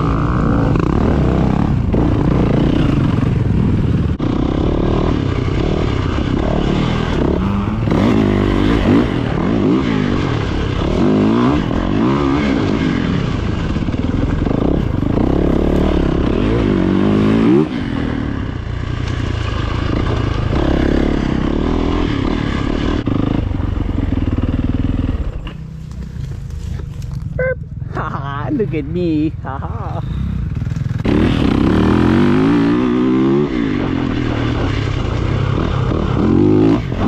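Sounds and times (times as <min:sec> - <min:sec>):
dirt bike engine revving: 0:00.0 - 0:28.0, 0:28.6 - 0:37.0.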